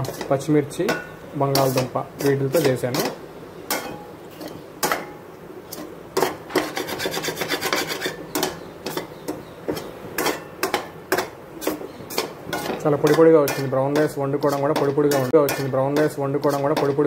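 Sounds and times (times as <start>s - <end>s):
steel spoon scraping metal pan: 0.0s - 5.0s, 5.7s - 17.0s.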